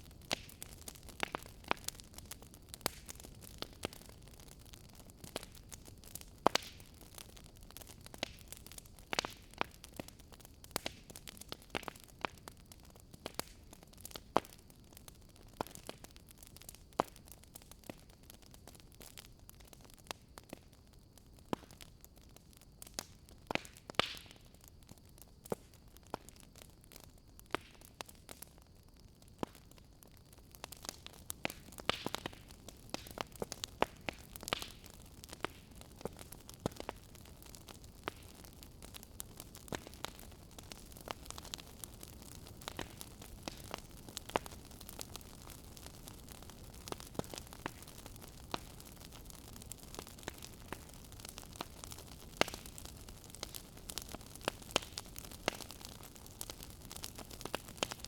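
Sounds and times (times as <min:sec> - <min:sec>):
fire pops and snaps: 0:00.0 - 0:58.0.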